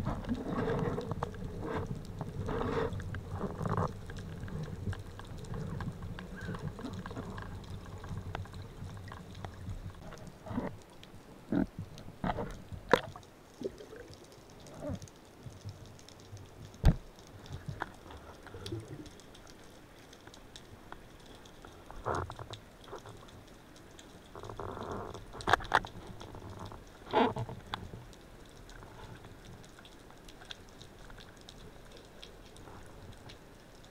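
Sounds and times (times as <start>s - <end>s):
underwater bubbling: 0.0s - 33.9s.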